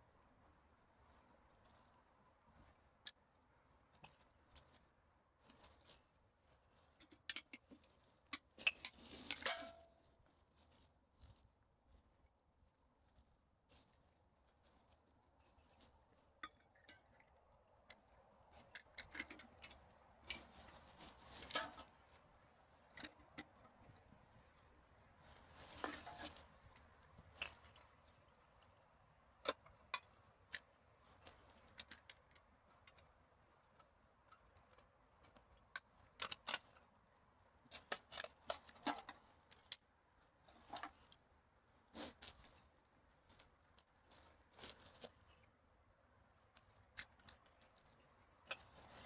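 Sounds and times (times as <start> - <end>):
dry forest litter crackling: 0.0 - 49.0.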